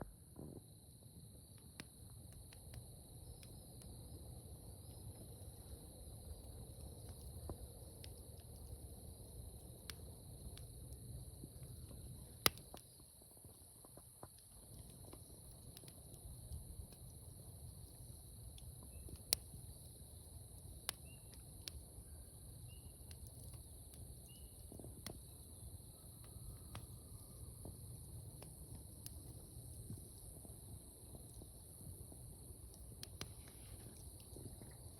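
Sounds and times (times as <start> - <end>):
low rumble of flames: 0.0 - 34.9
wood fire crackling: 0.0 - 34.9
sharp pops of fire: 1.4 - 34.9.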